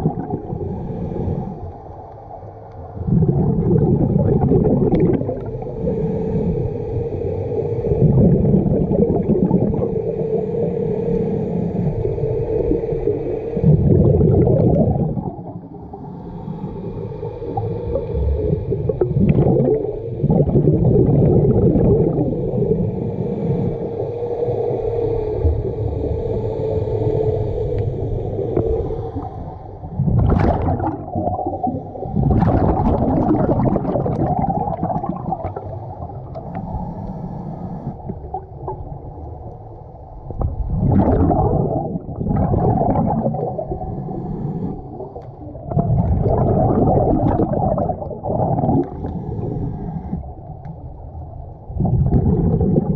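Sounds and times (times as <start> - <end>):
exhaled bubbles gurgling underwater: 0.0 - 52.9
low underwater rumble: 0.0 - 52.9
steady hum: 0.0 - 52.9.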